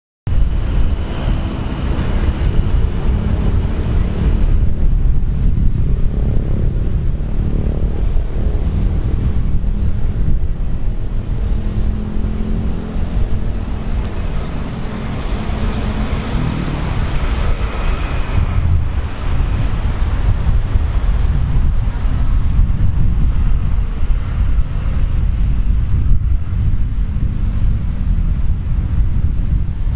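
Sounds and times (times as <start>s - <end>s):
vehicle engines rumbling: 0.3s - 29.9s.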